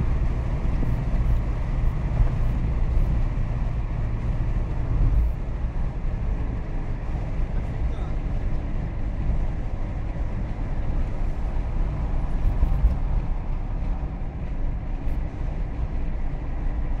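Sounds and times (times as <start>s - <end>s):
car driving at highway speed: 0.0s - 17.0s.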